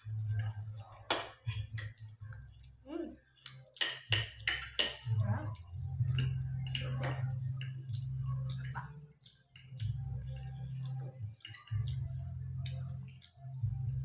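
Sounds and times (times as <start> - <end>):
forks clinking against plates: 0.0 - 2.6, 3.4 - 12.1
mouth sounds of eating: 0.0 - 14.0.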